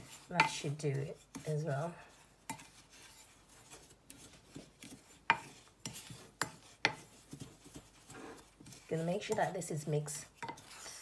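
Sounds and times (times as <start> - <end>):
spoon scraping through powder: 0.0 - 11.0.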